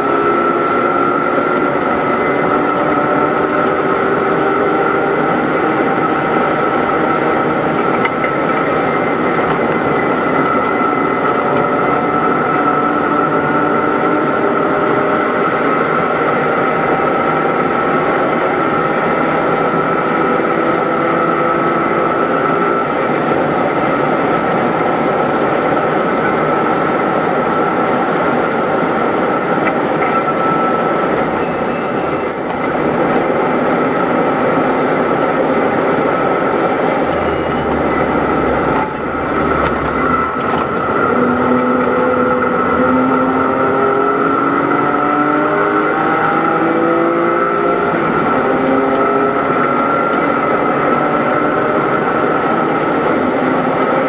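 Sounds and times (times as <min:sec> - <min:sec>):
race car engine under load: 0:00.0 - 0:54.0
wind and road noise: 0:00.0 - 0:54.0.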